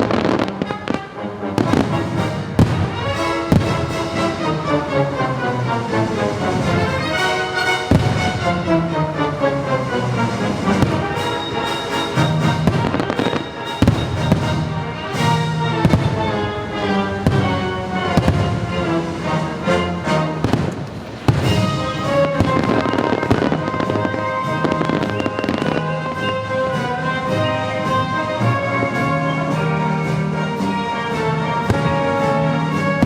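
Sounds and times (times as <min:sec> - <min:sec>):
fireworks bangs and crackles: 0:00.0 - 0:01.0, 0:01.6 - 0:33.0
loud music: 0:01.5 - 0:33.0.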